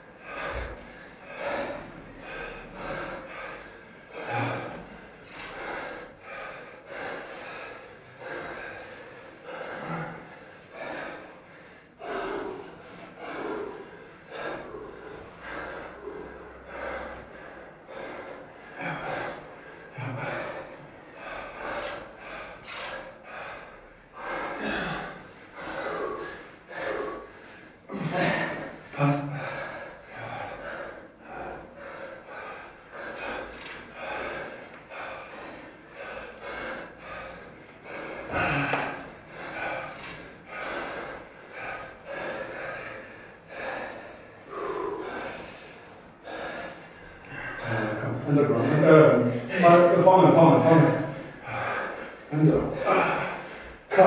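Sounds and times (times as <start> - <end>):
men breathing hard: 0.0 - 54.0.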